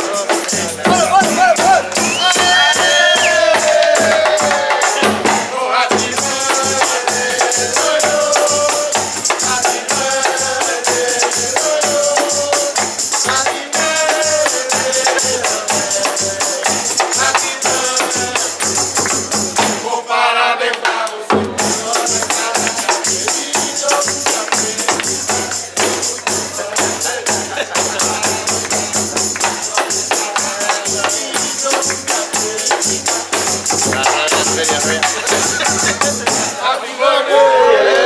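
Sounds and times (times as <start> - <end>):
hand drum: 0.0 - 19.9, 21.3 - 36.6
jingling tambourines: 0.0 - 37.5
group singing a birthday song: 0.0 - 38.0.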